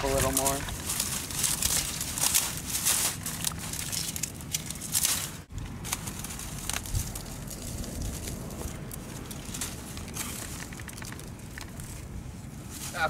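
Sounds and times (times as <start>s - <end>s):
stalks snapping: 0.0s - 12.0s
dry stalks rustling and crackling: 0.0s - 13.0s.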